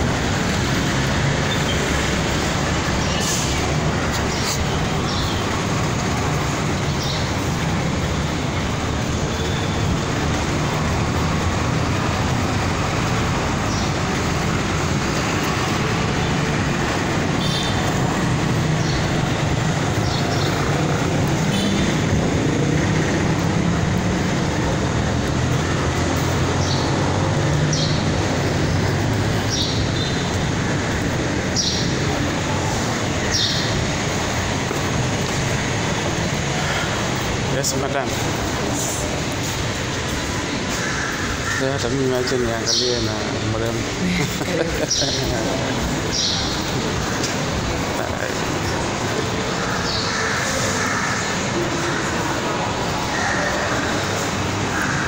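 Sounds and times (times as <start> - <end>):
highway traffic rumble: 0.0 - 55.0.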